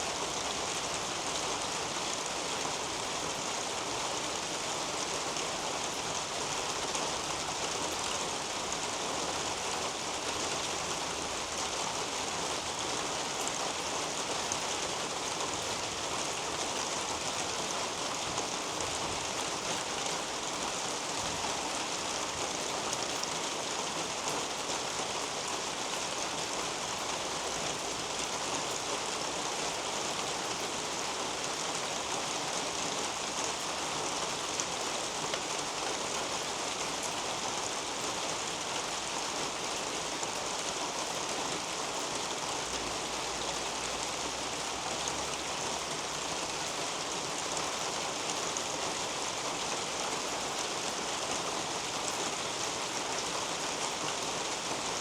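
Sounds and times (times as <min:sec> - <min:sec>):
rain on foliage and roof: 0:00.0 - 0:55.0.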